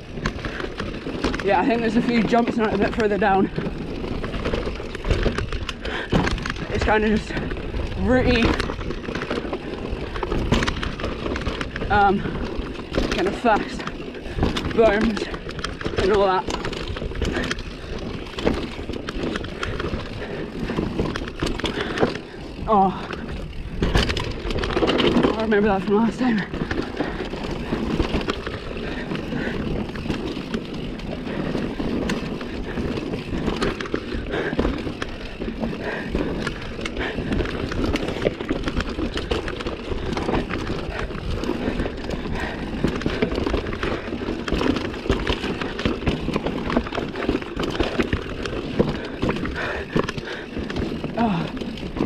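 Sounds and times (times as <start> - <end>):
bike rattling over roots: 0.0 - 52.0
bike tyres rushing on dirt: 0.0 - 52.0.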